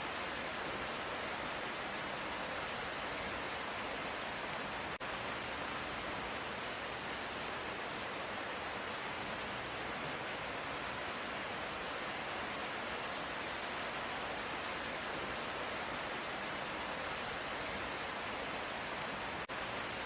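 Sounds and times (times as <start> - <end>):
light rain hissing: 0.0 - 20.0.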